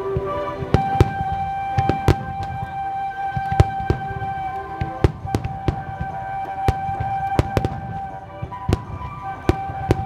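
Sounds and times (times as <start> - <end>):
music holding long note: 0.0 - 10.0
fireworks bangs: 0.2 - 10.0.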